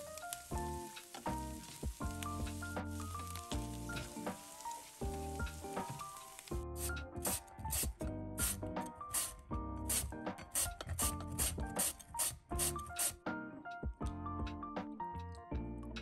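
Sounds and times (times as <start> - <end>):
corn kernels sizzling in a pan: 0.0 - 13.1
light background music: 0.0 - 16.0.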